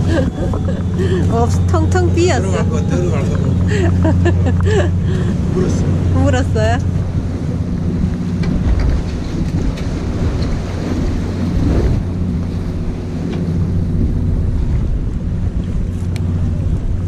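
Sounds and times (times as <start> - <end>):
boat machinery humming: 0.0 - 17.0
sea around hull: 0.0 - 17.0
wind on microphone: 0.0 - 17.0.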